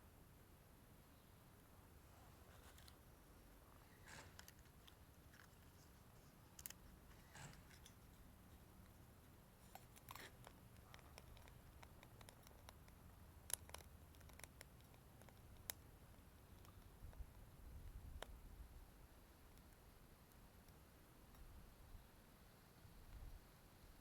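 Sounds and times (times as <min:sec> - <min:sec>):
wood crackling in a stove: 0:02.2 - 0:21.8.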